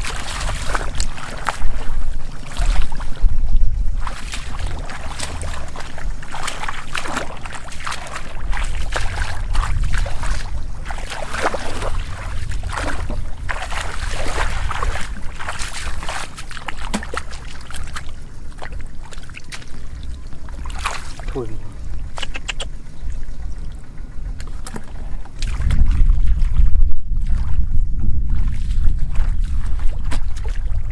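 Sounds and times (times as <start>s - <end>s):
splashing muddy water: 0.0s - 30.9s.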